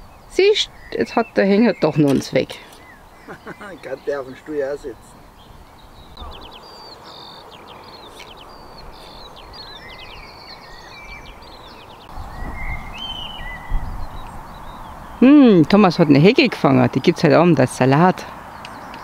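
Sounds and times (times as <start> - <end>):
songbirds chirping and whistling: 0.0 - 19.0
steady outdoor hiss: 0.0 - 19.0.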